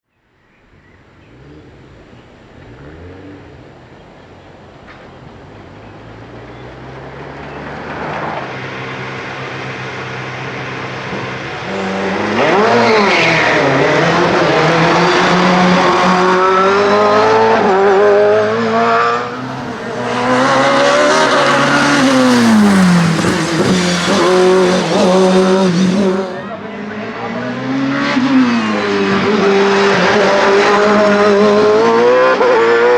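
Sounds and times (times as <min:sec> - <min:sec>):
racing engine at full throttle: 0:01.0 - 0:32.9.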